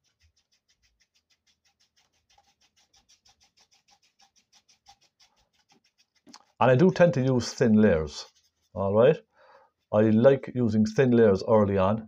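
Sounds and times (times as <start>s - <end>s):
paintbrush scratching on canvas: 0.0s - 11.2s.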